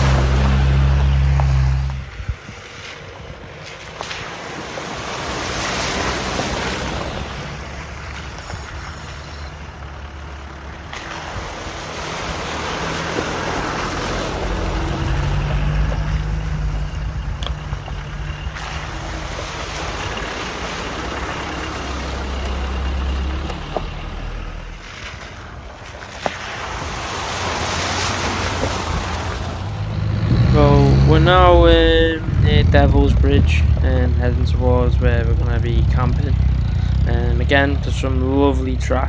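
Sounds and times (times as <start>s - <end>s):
engine and tyre rumble: 0.0s - 39.0s
wind buffeting microphone: 0.0s - 39.0s.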